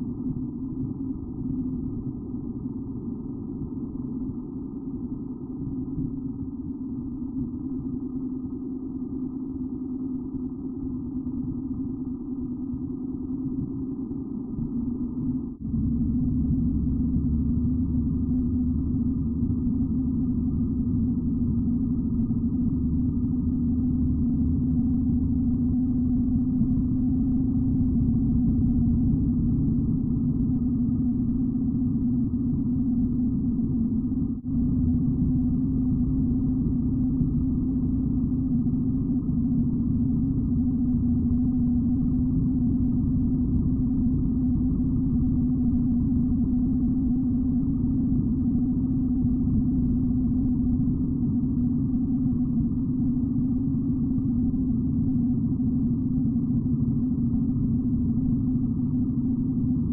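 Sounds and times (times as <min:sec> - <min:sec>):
motorcycle engine drone: 0:00.0 - 0:59.9.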